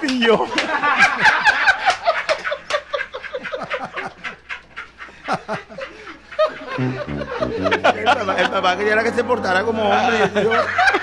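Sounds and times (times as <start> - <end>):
people laughing: 0.1 - 11.0.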